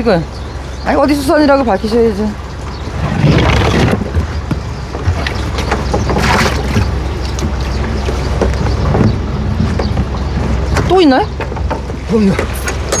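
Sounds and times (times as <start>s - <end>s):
water splashing: 1.8s - 12.9s.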